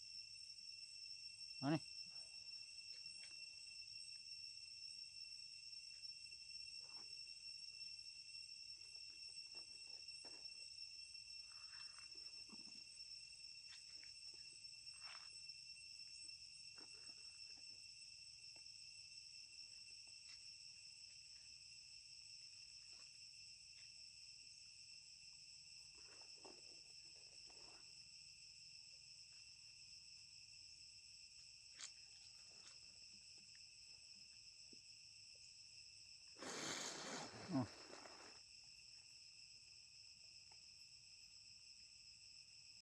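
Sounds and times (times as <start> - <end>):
insects trilling: 0.0 - 42.8.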